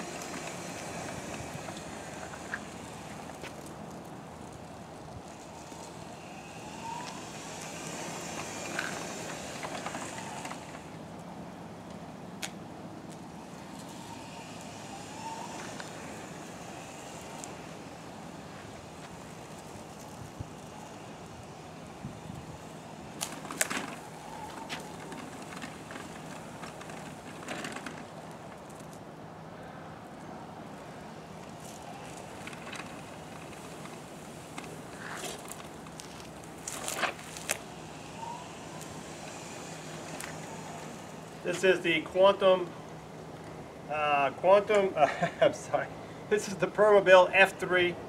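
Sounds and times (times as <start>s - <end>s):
wheelchair motors whining: 0.0s - 29.2s, 30.5s - 45.6s
steady hiss: 0.0s - 29.4s, 30.6s - 48.0s.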